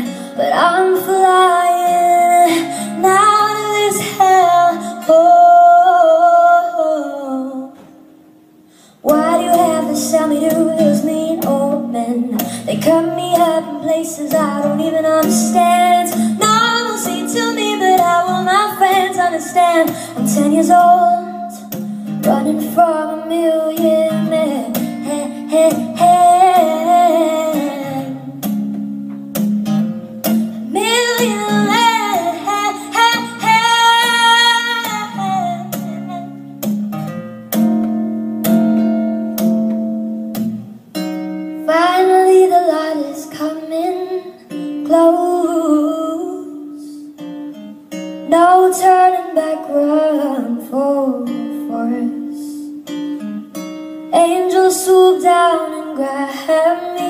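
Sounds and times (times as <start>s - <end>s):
woman singing: 0.0s - 8.0s, 9.0s - 28.5s, 30.6s - 36.5s, 41.6s - 47.3s, 48.2s - 53.0s, 54.0s - 57.0s
plucked acoustic guitar: 0.0s - 57.0s.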